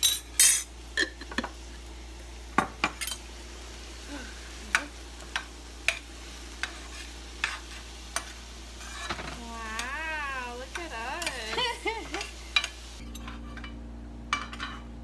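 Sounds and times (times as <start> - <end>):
utensils clinking against dishes: 0.0 - 1.7, 2.5 - 3.3, 4.7 - 14.9.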